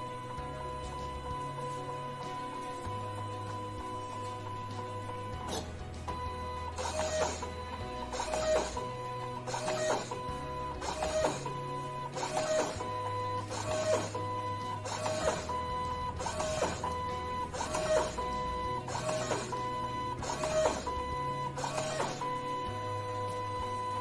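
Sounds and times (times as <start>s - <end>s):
background music: 0.0s - 24.0s
printer motors whining: 0.0s - 24.0s.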